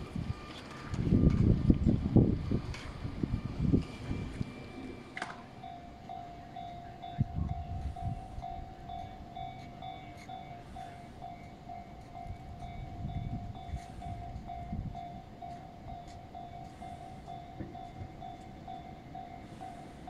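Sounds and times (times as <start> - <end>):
distant electric train: 0.0 - 20.0
pulsing high ringing tone: 0.0 - 20.0.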